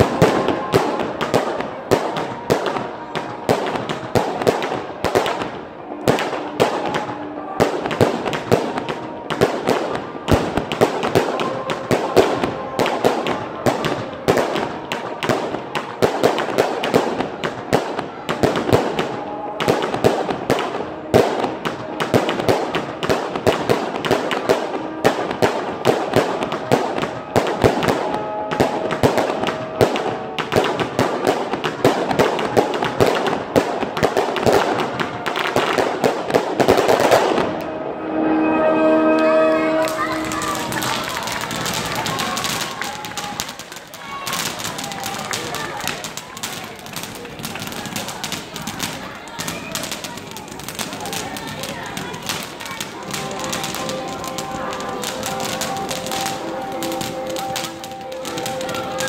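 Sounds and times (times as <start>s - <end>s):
fireworks bangs and crackles: 0.0s - 37.8s, 38.8s - 59.0s.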